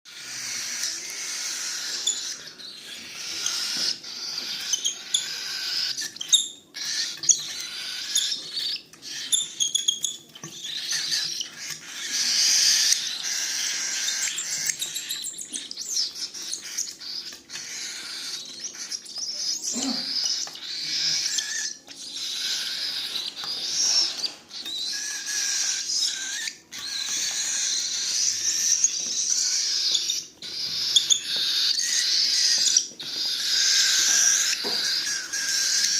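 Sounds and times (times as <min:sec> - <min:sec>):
chicks raspy begging calls: 0:00.1 - 0:35.9.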